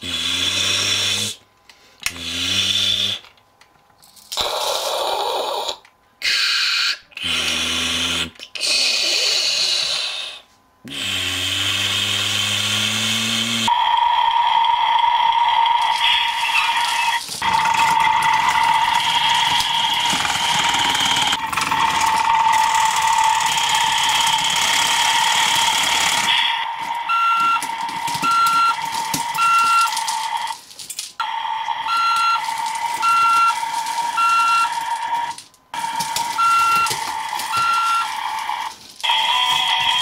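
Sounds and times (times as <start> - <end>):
toy buzzing engine tone: 4.6 - 30.6, 31.2 - 40.0.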